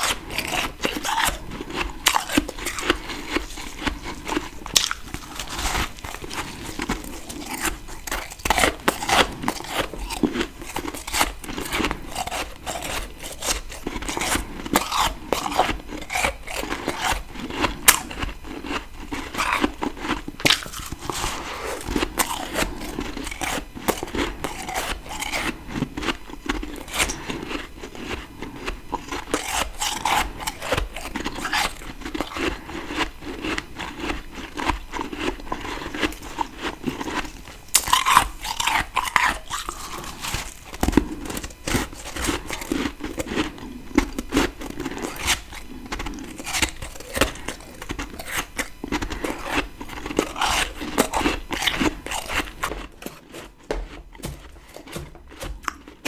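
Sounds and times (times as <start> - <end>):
frost crunching when chewed: 0.0 - 56.0.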